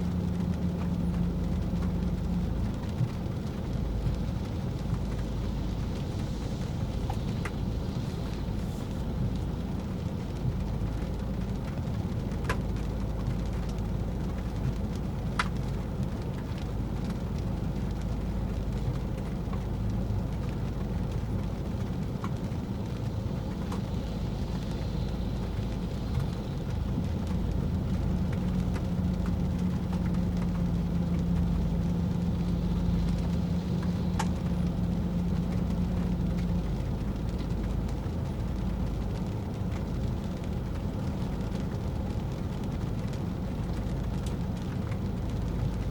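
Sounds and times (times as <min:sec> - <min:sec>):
car driving on wet road: 0:00.0 - 0:45.9.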